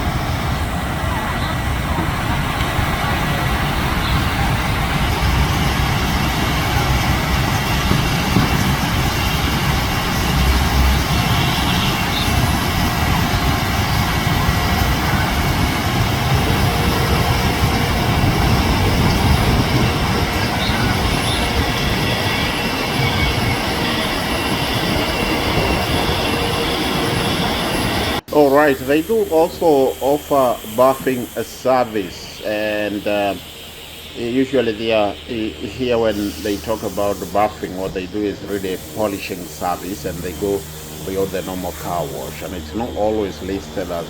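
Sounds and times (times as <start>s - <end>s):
faint steady whines: 0.0s - 44.0s
loud machinery noise: 0.0s - 44.0s.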